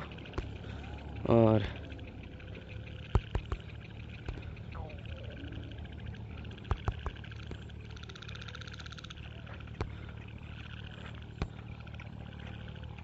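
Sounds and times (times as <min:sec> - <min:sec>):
frogs trilling: 0:00.0 - 0:13.0
steady low hum: 0:00.0 - 0:13.0.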